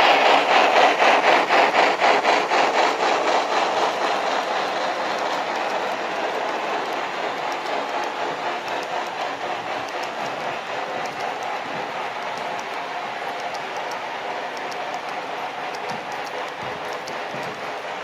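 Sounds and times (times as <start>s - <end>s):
model train clicking on track: 0.0s - 18.0s
train rolling noise: 0.0s - 18.0s.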